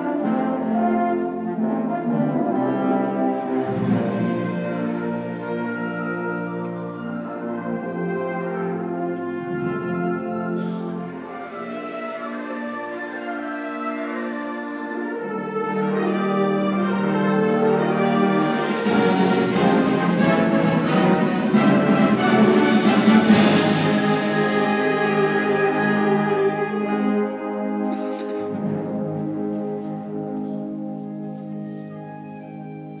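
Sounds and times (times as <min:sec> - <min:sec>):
symphonic band sustained chords: 0:00.0 - 0:33.0.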